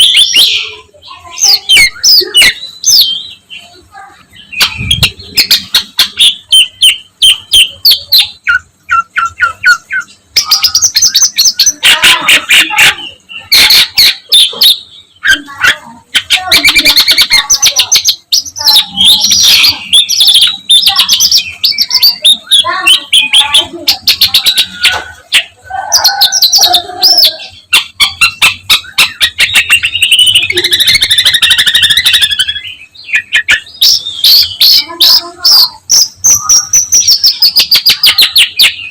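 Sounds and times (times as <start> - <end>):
shrike singing: 0.0 - 38.9.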